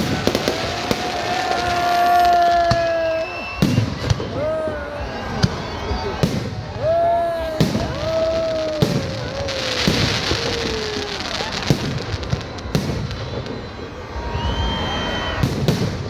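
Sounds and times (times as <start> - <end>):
crackling hiss: 0.0 - 13.8
firework bangs: 0.0 - 16.0
firework whistling: 0.0 - 16.0.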